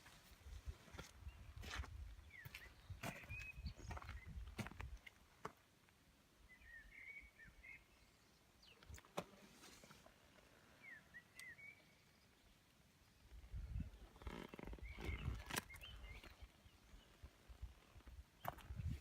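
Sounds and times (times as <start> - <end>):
faint bird chirps: 1.3 - 4.6, 6.4 - 19.0.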